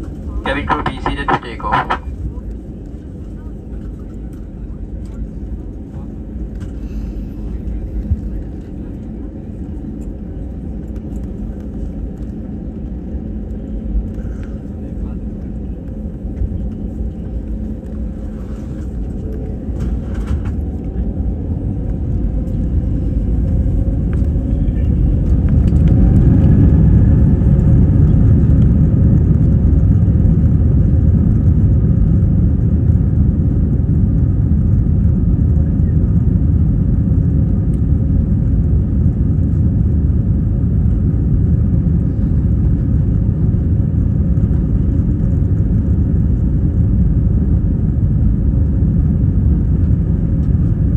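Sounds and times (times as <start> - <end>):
jet engines rumbling in cabin: 0.0 - 50.9.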